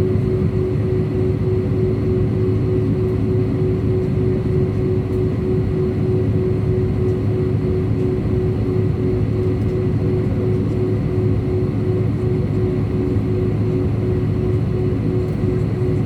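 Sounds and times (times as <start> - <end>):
aircraft cabin engine rumble: 0.0 - 16.0
constant hum: 0.0 - 16.0.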